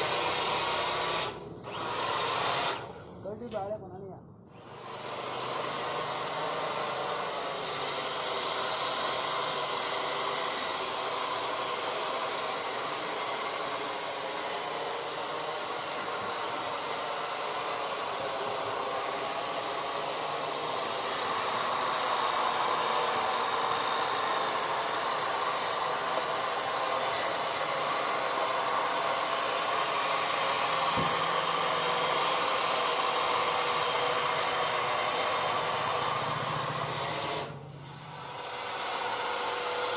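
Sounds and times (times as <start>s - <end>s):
hedge trimmer motor whining: 0.0s - 3.8s, 4.5s - 39.9s.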